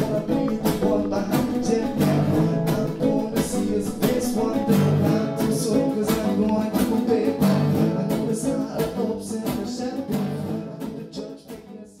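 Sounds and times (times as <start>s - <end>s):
guitar music with steady beat: 0.0s - 12.0s.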